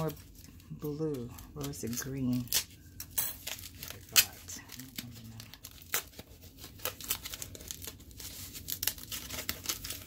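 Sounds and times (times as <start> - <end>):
plastic packing pouches rustling: 0.0 - 10.0.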